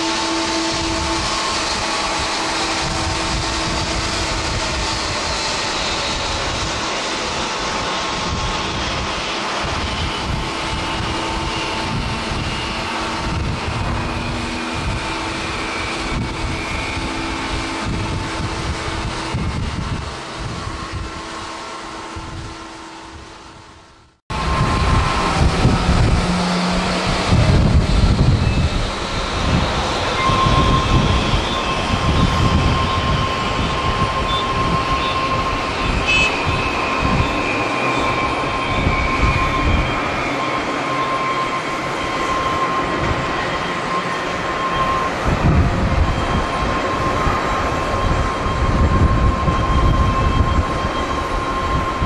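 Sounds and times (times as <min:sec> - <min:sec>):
jet engines droning: 0:00.0 - 0:52.0
wind buffeting microphone: 0:00.0 - 0:52.0.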